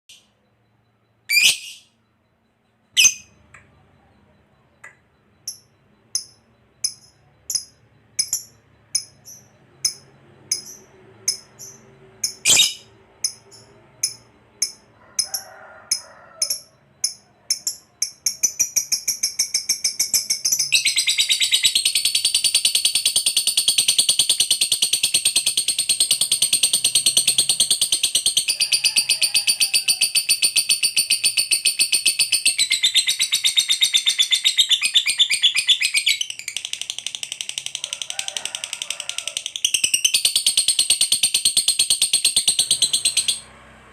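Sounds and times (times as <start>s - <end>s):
lovebird high chirps: 1.3s - 2.0s, 2.9s - 3.8s, 4.9s - 14.9s, 17.1s - 37.7s, 39.6s - 43.4s.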